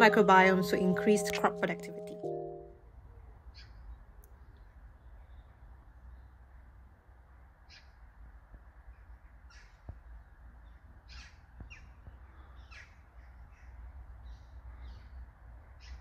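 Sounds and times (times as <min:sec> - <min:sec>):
birds calling faintly: 0:02.8 - 0:16.0.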